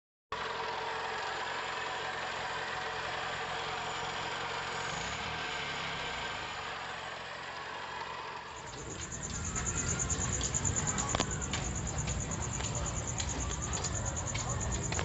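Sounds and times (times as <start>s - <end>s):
car engine idling: 0.4s - 15.0s.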